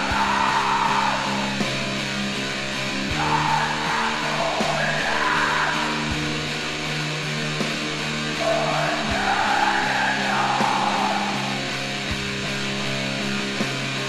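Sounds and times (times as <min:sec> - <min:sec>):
distorted guitar chords: 0:00.0 - 0:14.0.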